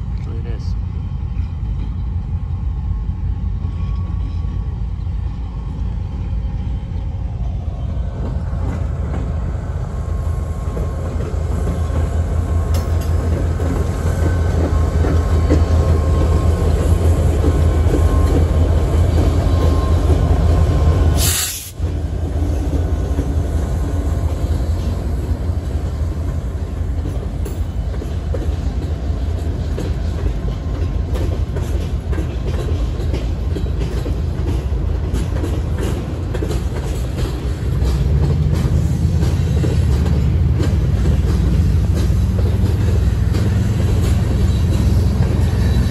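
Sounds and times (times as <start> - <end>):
diesel locomotive rumble: 0.0 - 45.9
train wheels clattering on rails: 1.0 - 45.9.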